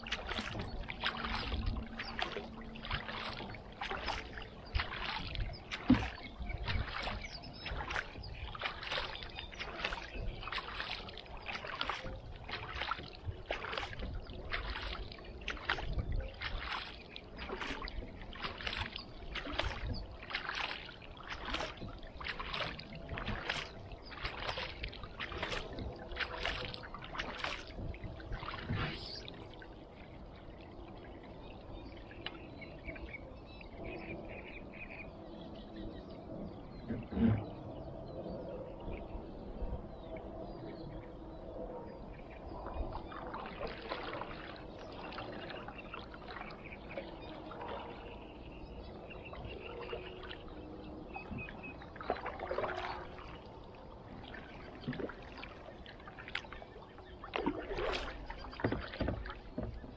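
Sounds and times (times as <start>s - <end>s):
faint water sounds: 0.0s - 59.9s
kayak paddle splashing: 0.0s - 59.9s.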